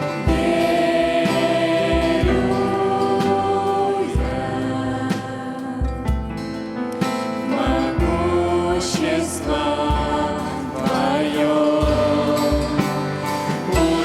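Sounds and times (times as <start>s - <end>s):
worship song music: 0.0s - 14.0s.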